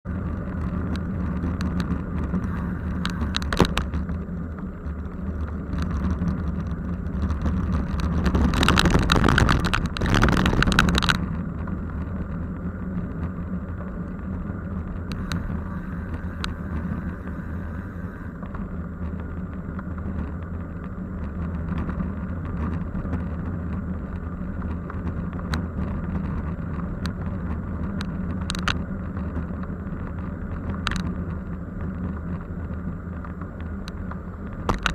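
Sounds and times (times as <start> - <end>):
vehicle engine and road hum: 0.0 - 34.9.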